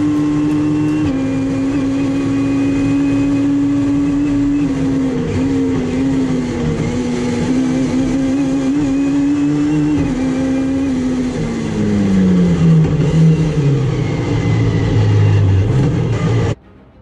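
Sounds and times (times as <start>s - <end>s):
car engine at high revs: 0.0s - 16.6s.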